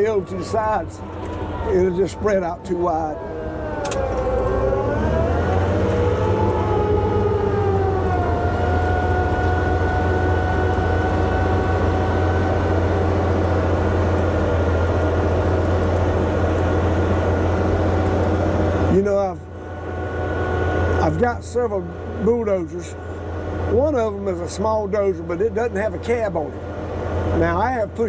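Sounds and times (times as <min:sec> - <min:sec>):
bulldozer diesel engine under load: 0:00.0 - 0:28.0
high engine whine: 0:00.0 - 0:28.0.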